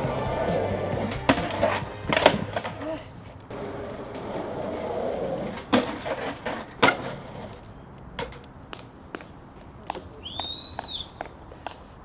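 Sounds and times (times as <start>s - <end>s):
skateboard clacking: 0.0s - 12.0s
skateboard wheels rolling on concrete: 0.0s - 12.0s.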